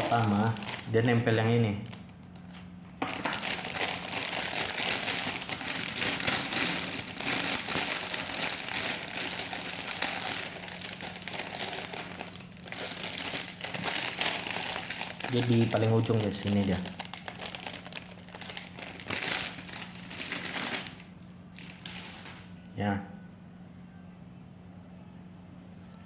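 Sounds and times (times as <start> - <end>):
thin plastic sheet crinkling: 0.0 - 22.6.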